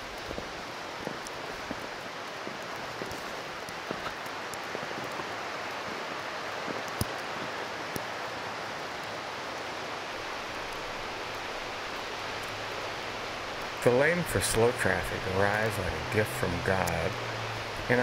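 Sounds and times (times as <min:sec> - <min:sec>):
road and tyre noise in car: 0:00.0 - 0:18.0.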